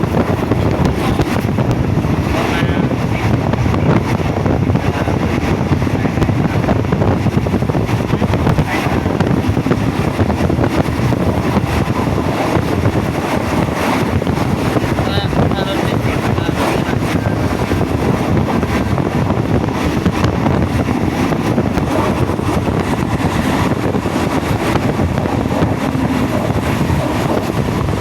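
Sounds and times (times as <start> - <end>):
train running noise: 0.0 - 28.0
wind rushing over microphone: 0.0 - 28.0.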